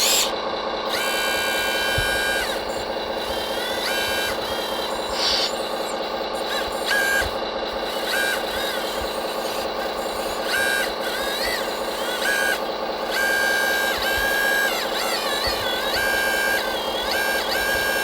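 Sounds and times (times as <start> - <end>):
electric motor and gearbox hum: 0.0 - 18.0
high-pitched motor whine: 0.0 - 18.0.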